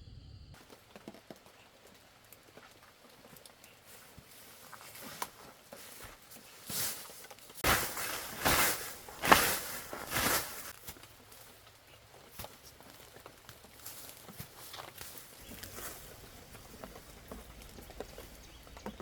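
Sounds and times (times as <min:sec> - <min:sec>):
footsteps: 0:00.5 - 0:19.0.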